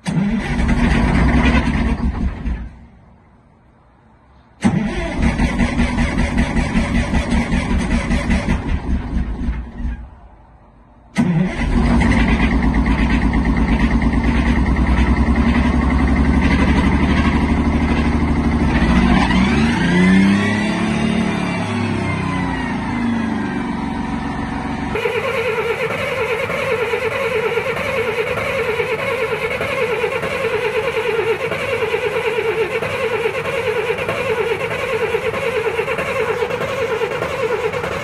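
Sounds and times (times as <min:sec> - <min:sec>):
diesel bus engine starting: 0:00.0 - 0:38.0.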